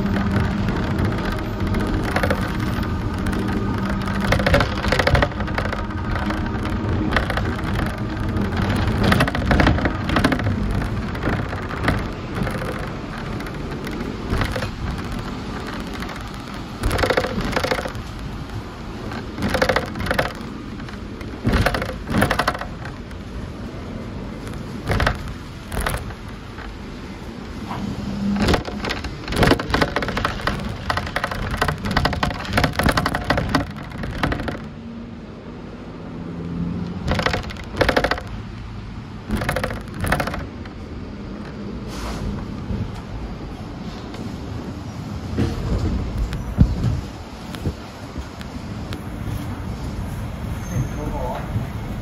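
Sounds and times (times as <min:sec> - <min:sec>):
tram clattering: 0:00.0 - 0:52.0
tram rumbling on tracks: 0:00.0 - 0:52.0.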